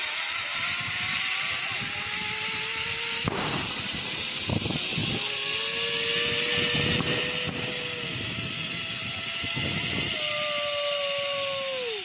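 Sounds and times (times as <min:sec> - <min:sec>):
zipline trolley whining on cable: 0:00.0 - 0:12.0
wind on microphone: 0:00.6 - 0:12.0.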